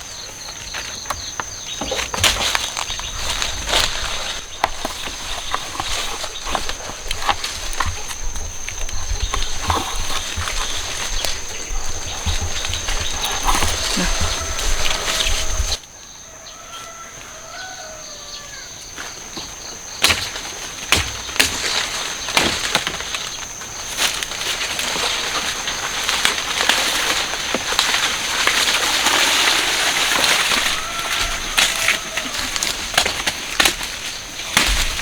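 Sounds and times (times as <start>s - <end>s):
leaves and stalks rustling: 0.0s - 35.0s.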